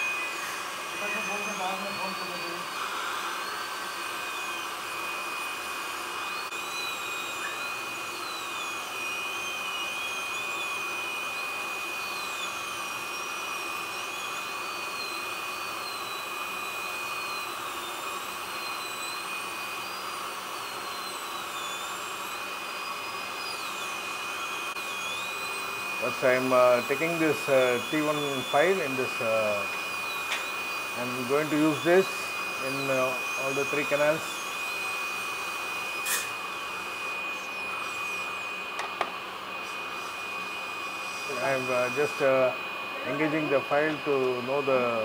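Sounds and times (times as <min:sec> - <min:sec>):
dental drill whining: 0:00.0 - 0:45.0.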